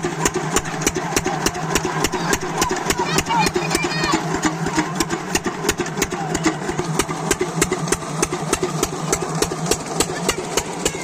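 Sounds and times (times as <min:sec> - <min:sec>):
diesel engine knocking: 0:00.0 - 0:11.0.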